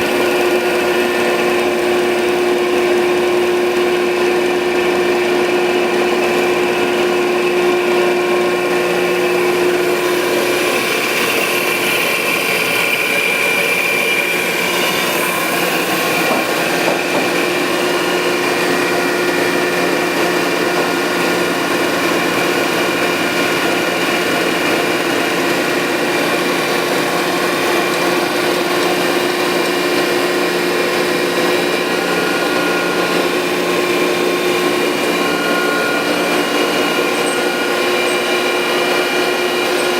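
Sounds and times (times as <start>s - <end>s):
grinder machine hum and whine: 0.0s - 39.9s.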